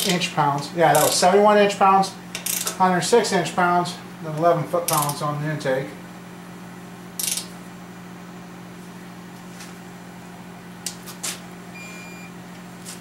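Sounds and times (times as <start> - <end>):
fan or motor humming: 0.0 - 13.0.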